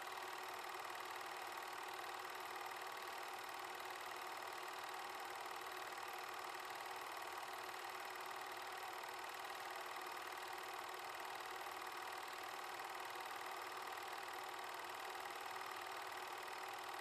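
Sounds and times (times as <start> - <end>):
film projector whirring: 0.0 - 17.0.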